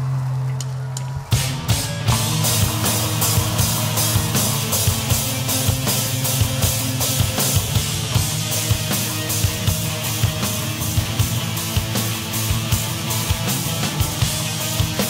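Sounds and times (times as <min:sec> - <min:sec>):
drum kit with cymbal strokes: 0:00.0 - 0:15.0
rock band playing live: 0:01.3 - 0:15.0.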